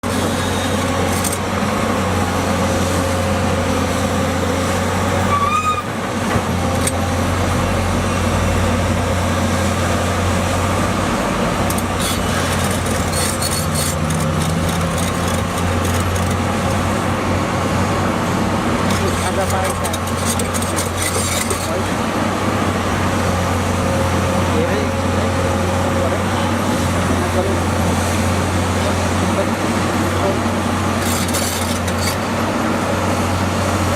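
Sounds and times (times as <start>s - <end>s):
excavator diesel engine humming: 0.0s - 33.9s.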